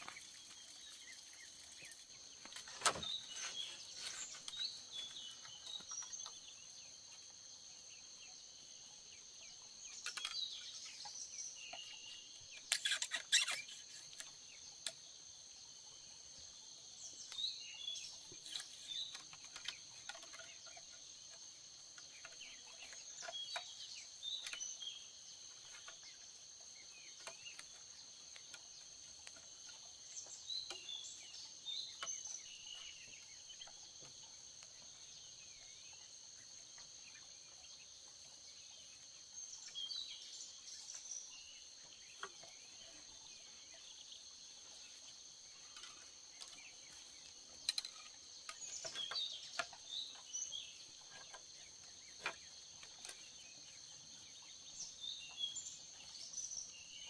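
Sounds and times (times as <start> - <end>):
bird chirps: 0.0 - 57.0.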